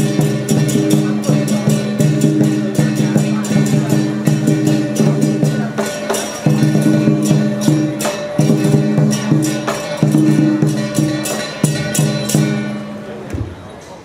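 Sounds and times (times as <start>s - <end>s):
cymbal crashes: 0.0s - 13.1s
percussion drum beat: 0.0s - 13.5s.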